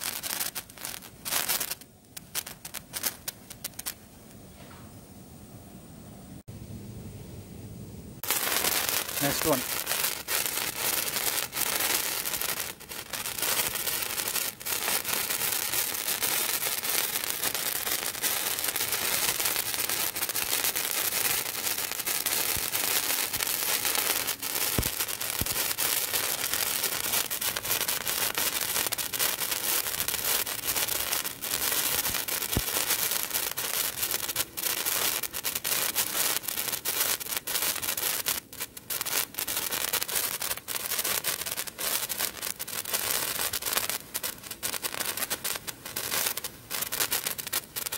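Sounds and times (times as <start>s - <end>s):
sparkler crackling hiss: 0.0s - 4.0s, 8.2s - 47.9s.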